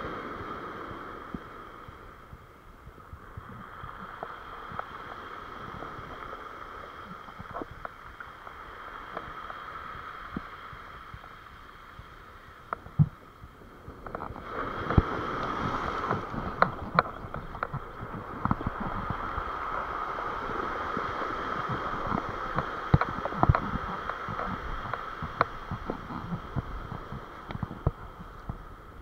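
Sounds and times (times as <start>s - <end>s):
surf washing over pebble beach: 0.0s - 29.0s.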